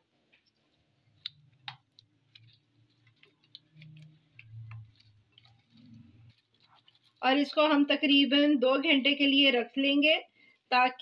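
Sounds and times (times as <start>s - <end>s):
hands squeezing chicken in marinade: 0.3s - 9.2s.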